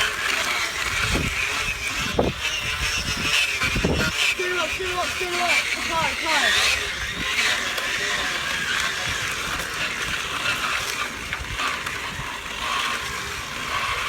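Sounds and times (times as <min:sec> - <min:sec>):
spokes buzzing against plastic bottle: 0:00.0 - 0:14.0.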